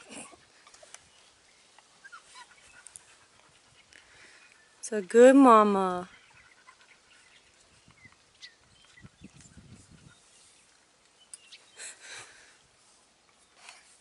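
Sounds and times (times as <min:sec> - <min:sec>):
rustling in grass: 0:00.0 - 0:14.0.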